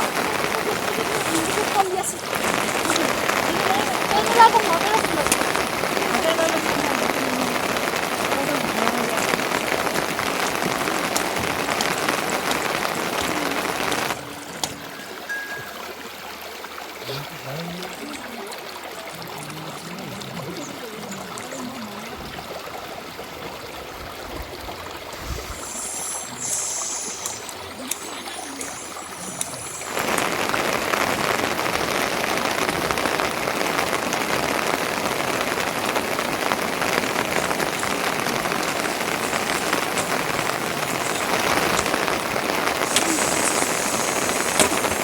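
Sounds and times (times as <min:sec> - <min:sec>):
rushing water: 0:00.0 - 0:45.0.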